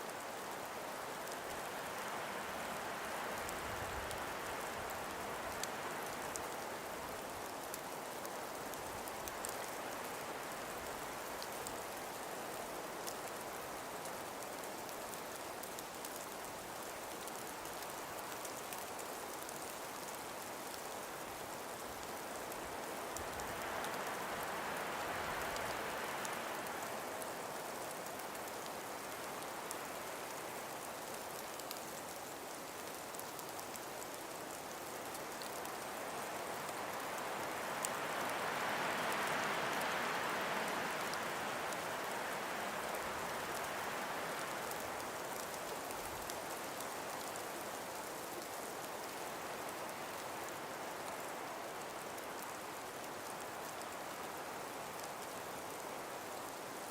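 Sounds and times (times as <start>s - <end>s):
breeze through trees: 0.0s - 56.9s.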